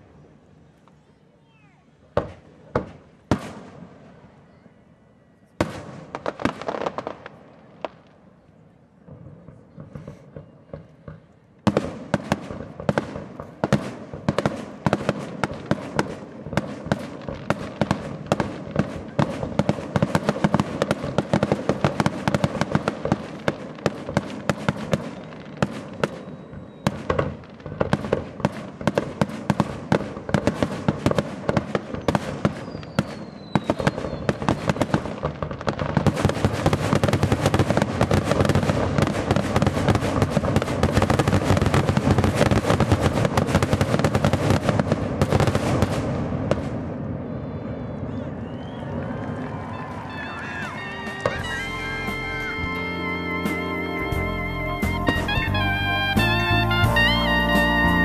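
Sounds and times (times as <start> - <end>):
fireworks crackling: 0.0 - 4.6, 5.6 - 58.0
fireworks bursting: 0.0 - 4.7, 5.5 - 58.0.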